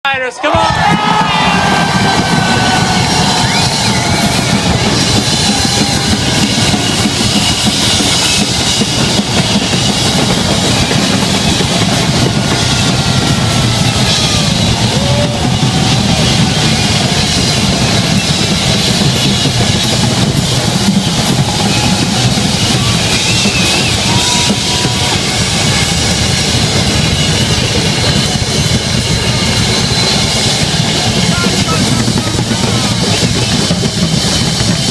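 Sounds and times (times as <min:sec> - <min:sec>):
drum kits: 0:00.1 - 0:34.9.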